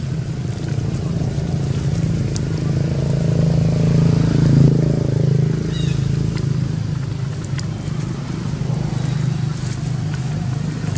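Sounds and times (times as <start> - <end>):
low engine hum: 0.0 - 10.9.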